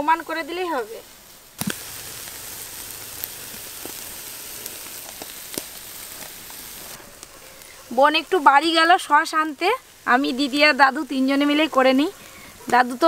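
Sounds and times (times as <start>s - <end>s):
fire crackles and pops: 0.0s - 11.2s
chicken sizzling on a grill: 0.0s - 13.0s.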